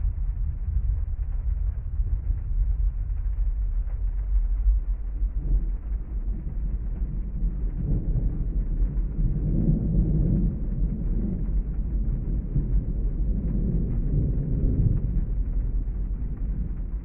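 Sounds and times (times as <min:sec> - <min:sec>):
rain rumble inside a car: 0:00.0 - 0:17.0.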